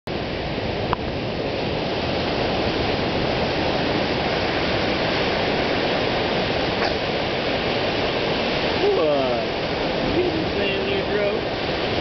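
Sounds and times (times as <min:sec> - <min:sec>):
ocean surf breaking: 0:00.1 - 0:12.0.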